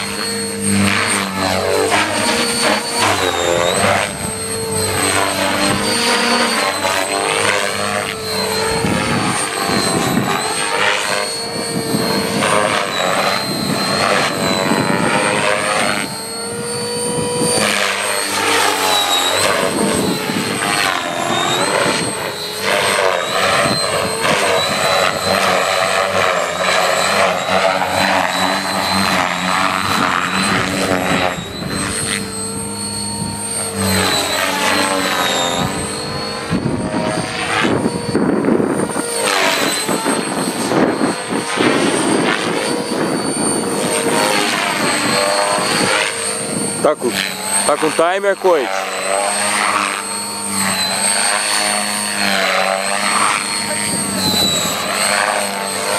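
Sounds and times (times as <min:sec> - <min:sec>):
high whine: 0:00.0 - 0:55.9
model helicopter rotor and motor: 0:00.0 - 0:55.9.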